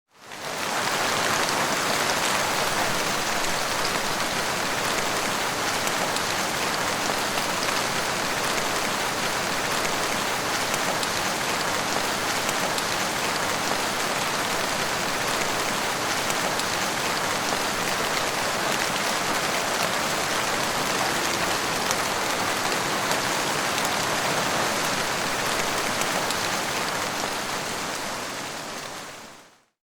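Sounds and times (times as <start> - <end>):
heavy rain falling: 0.2 - 29.6.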